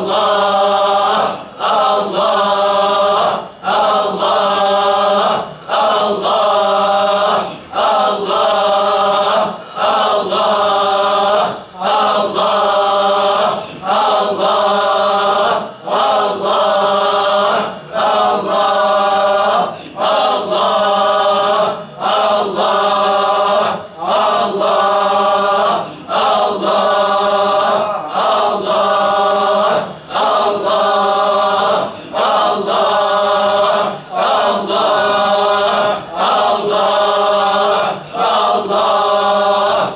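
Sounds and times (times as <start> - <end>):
men chanting together: 0.0 - 39.9.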